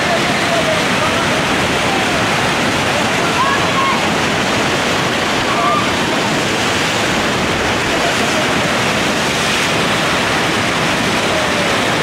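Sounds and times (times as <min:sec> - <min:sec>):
river rapid roaring: 0:00.0 - 0:12.0.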